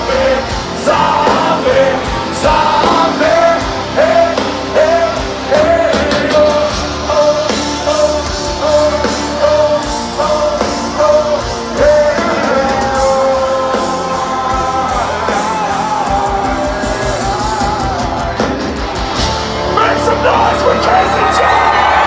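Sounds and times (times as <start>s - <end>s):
live heavy metal band: 0.0s - 22.0s.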